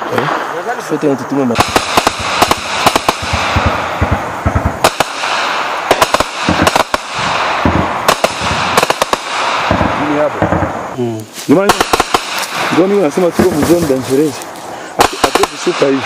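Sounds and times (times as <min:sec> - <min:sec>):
rifle shots echoing: 0:00.0 - 0:10.9, 0:11.5 - 0:16.0.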